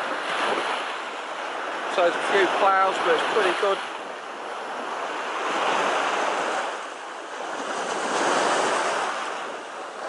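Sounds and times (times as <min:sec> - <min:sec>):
small sea waves breaking: 0:00.0 - 0:10.0.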